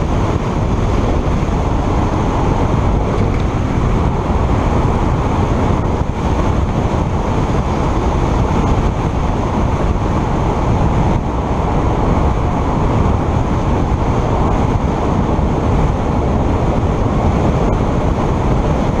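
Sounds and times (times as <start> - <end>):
wind and road noise rumble: 0.0 - 19.0.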